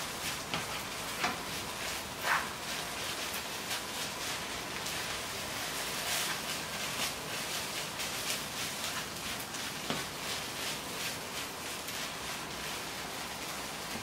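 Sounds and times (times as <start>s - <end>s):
rice sizzling in a pan: 0.0s - 14.0s.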